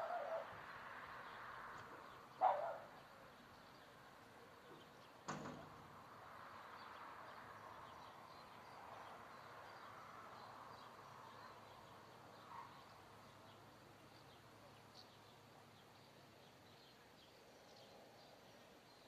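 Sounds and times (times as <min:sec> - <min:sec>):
faint outdoor hum: 0:00.0 - 0:19.0.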